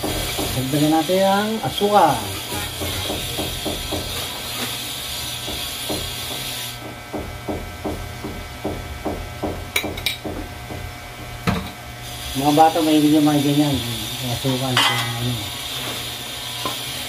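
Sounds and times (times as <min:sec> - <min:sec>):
wok sizzling: 0:00.0 - 0:17.0.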